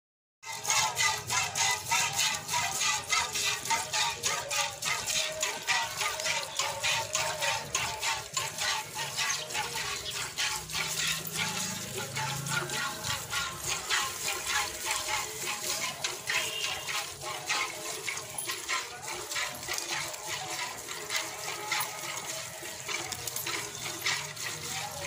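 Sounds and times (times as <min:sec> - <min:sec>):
milk squirting into a steel pail: 0:00.4 - 0:25.0.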